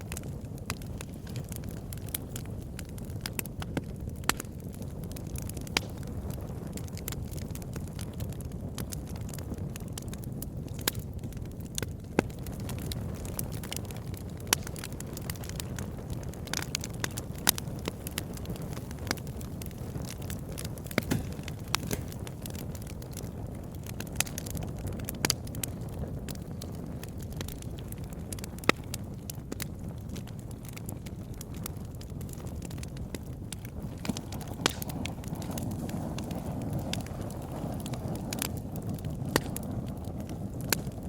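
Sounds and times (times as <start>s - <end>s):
loud fire snaps: 0.0s - 41.0s
wood fire crackling: 0.0s - 41.0s.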